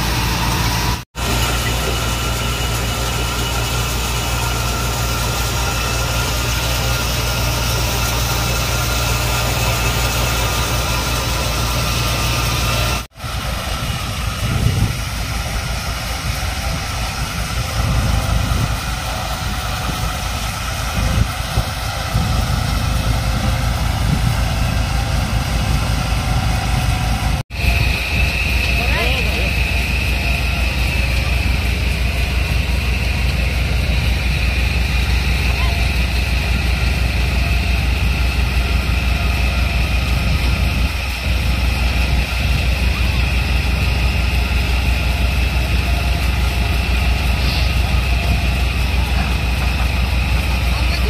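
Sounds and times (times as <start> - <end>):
threshing machine droning: 0.0 - 51.0.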